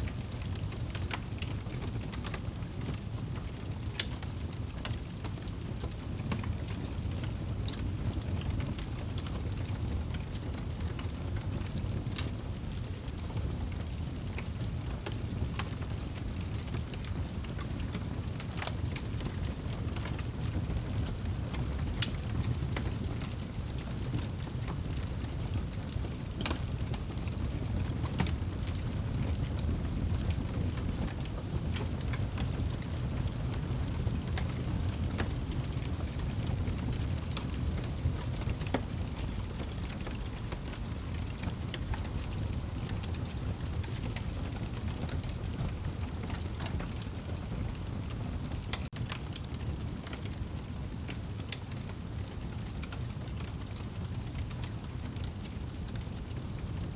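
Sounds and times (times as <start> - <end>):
fire crackles and pops: 0.0 - 56.9
low rumble of flames: 0.0 - 56.9.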